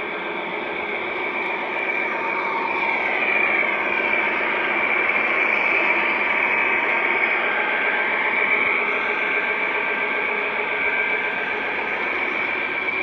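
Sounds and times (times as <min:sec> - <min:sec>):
faint high whine: 0:00.0 - 0:13.0
model train wheels whirring: 0:00.0 - 0:13.0.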